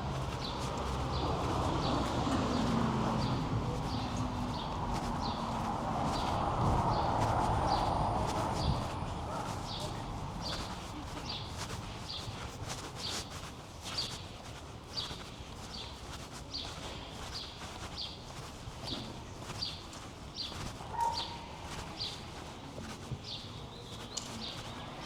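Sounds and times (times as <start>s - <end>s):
faint outdoor background: 0.0s - 25.0s
footsteps walking: 0.0s - 25.0s.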